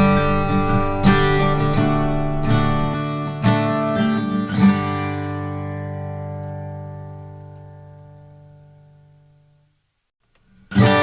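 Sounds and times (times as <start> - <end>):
acoustic guitar strumming: 0.0 - 9.6, 10.4 - 11.0.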